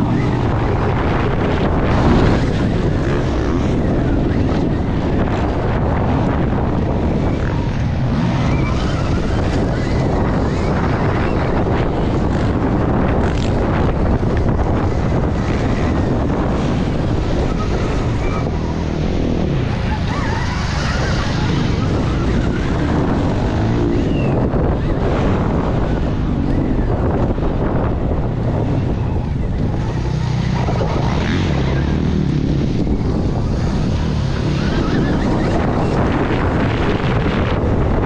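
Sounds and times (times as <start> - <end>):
wind on camera microphone: 0.0 - 38.0.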